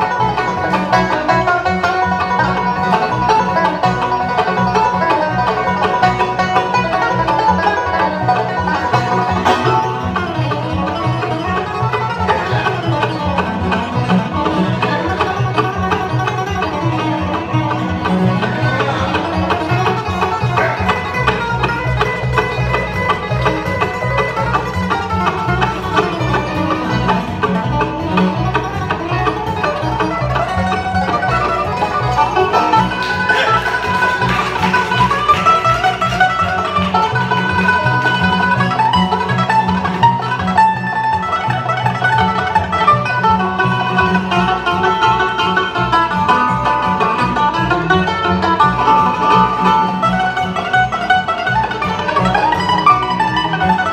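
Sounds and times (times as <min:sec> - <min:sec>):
banjo: 0:00.0 - 0:53.9
guitar: 0:00.0 - 0:53.9
mandolin: 0:00.0 - 0:53.9
upright bass: 0:00.0 - 0:53.9.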